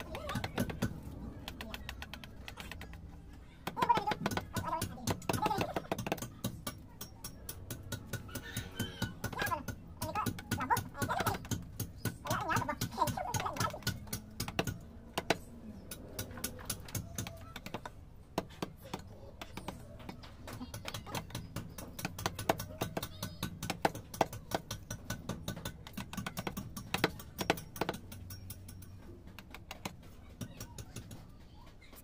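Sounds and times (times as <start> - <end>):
chisel tapping and scraping stone: 0.0 - 31.5.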